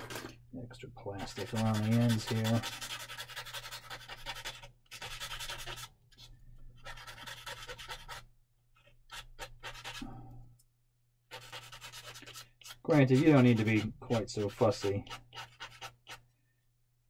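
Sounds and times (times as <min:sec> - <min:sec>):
abrasive stick filing plastic: 0:01.2 - 0:10.1, 0:11.3 - 0:16.3.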